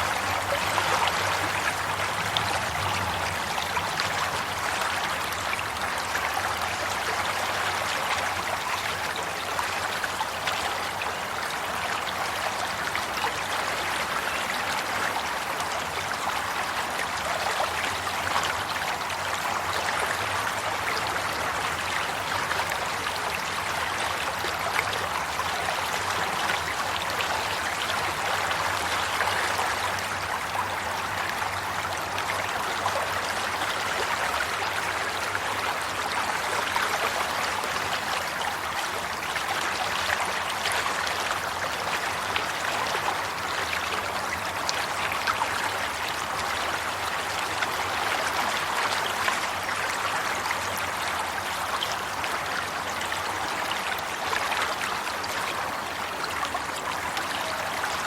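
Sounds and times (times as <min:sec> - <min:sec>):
stream water flowing and trickling: 0:00.0 - 0:58.0.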